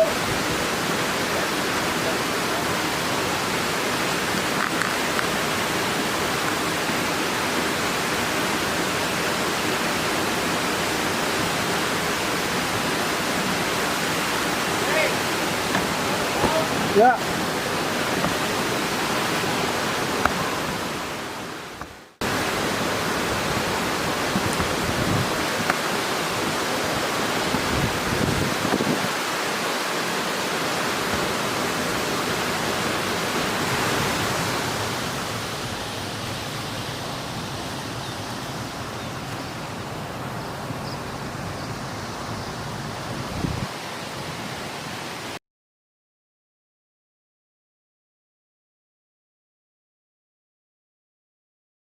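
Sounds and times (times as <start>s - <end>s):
water rushing over a weir: 0.0s - 45.4s.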